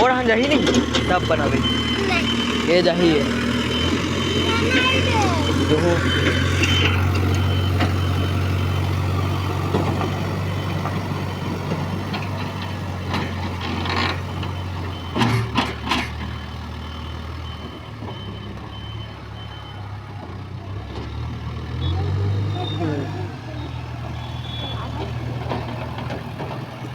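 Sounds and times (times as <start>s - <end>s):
reversing alarm beeping: 0.0s - 20.2s, 21.6s - 26.7s
diesel engine running: 0.0s - 26.9s.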